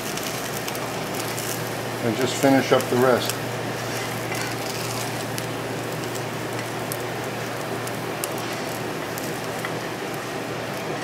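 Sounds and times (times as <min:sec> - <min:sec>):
latkes sizzling in oil: 0:00.0 - 0:11.0
steady low hum: 0:00.0 - 0:11.0.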